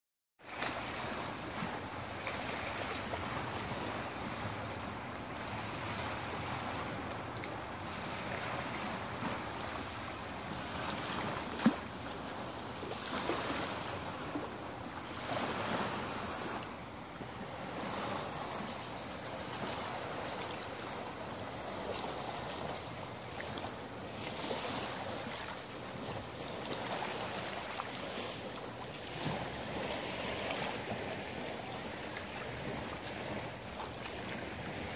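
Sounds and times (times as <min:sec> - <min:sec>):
lake waves lapping on shore: 0:00.4 - 0:34.9.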